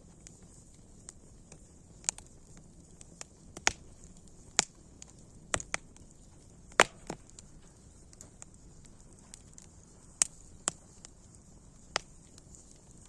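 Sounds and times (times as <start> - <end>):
campfire crackling: 0.0 - 13.0
faint steady hiss: 0.0 - 13.0.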